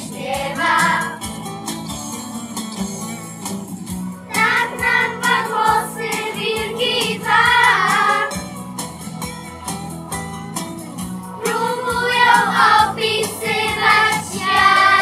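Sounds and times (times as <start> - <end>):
music with steady beat: 0.0 - 15.0.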